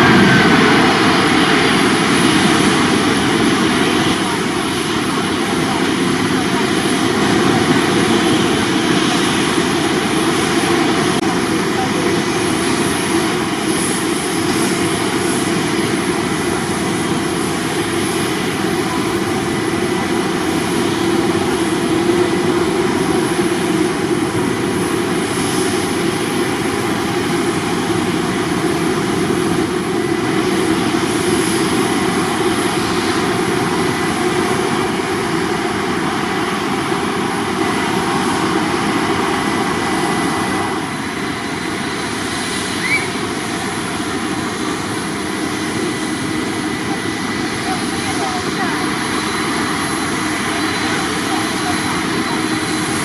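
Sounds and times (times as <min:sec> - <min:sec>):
jet airliner engine roar: 0:00.0 - 0:53.0.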